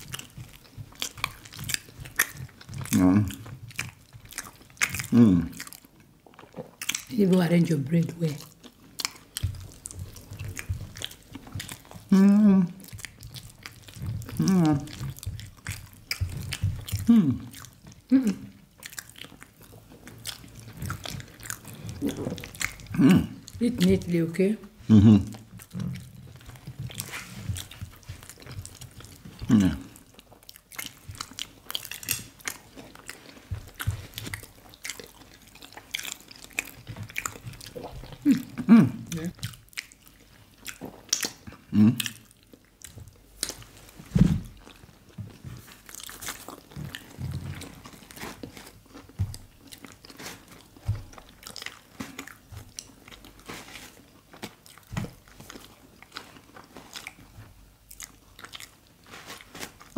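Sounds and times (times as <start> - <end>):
chewing and lip smacks: 0.0 - 59.9.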